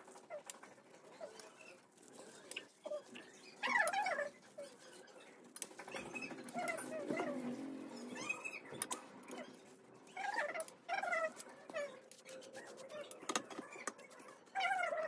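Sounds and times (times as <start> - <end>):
animal whining: 0.2 - 5.3, 5.9 - 15.0.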